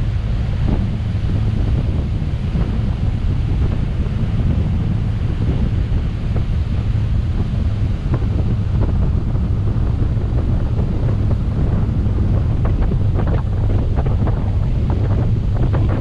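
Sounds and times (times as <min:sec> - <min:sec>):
water splashing against hull: 0:00.0 - 0:16.0
wind buffeting microphone: 0:00.0 - 0:16.0.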